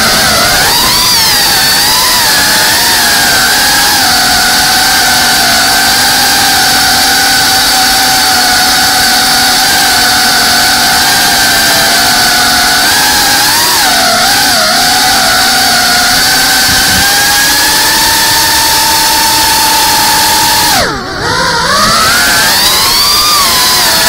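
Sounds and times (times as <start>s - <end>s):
drone motors and propellers whining: 0.0s - 24.0s.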